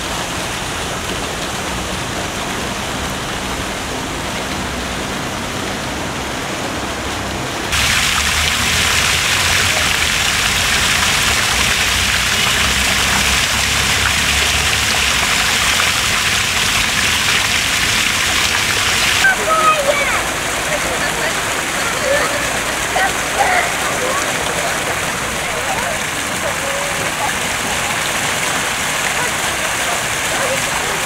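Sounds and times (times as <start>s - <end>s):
fountain water spraying: 0.0s - 31.0s
water rushing down cascade: 0.0s - 31.0s.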